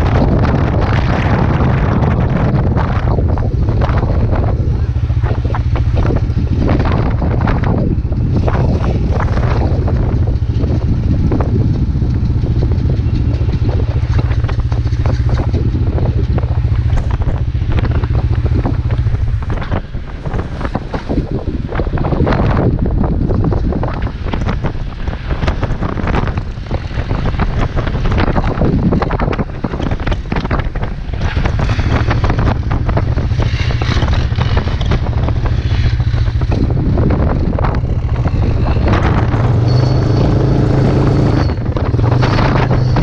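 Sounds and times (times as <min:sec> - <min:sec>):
strong wind buffeting microphone: 0:00.0 - 0:43.0.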